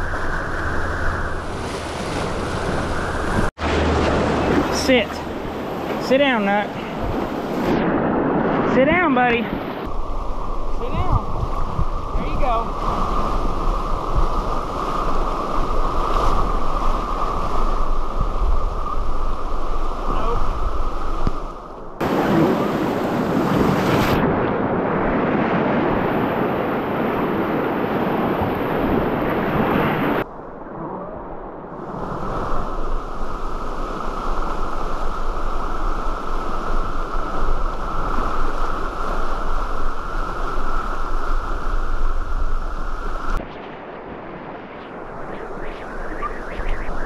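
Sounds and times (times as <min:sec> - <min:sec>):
wind noise on microphone: 0:00.0 - 0:47.0.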